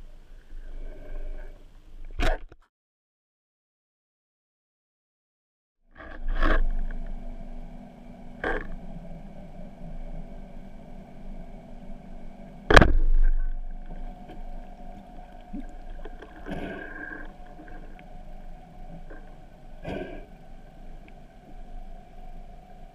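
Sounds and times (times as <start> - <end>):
underwater hum: 0.0 - 2.1, 5.9 - 22.9.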